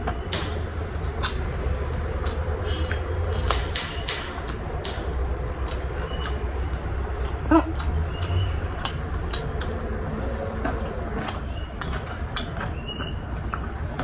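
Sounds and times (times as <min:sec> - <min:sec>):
steady low rumble: 0:00.0 - 0:14.0
person chewing food: 0:01.0 - 0:03.6, 0:04.4 - 0:14.0.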